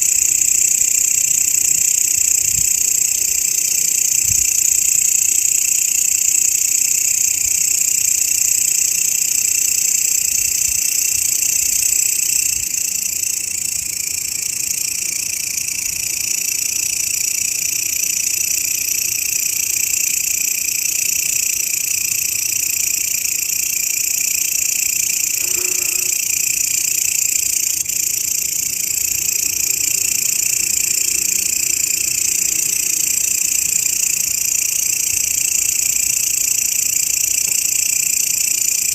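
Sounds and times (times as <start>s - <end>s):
grasshoppers stridulating: 0.0s - 38.9s.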